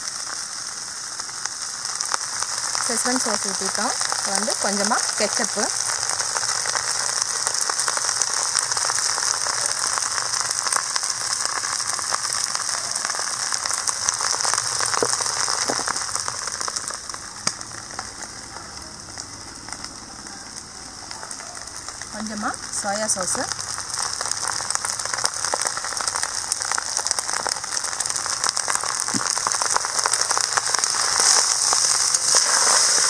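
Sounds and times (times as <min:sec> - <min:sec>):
rice sizzling in a wok: 0:00.0 - 0:33.0.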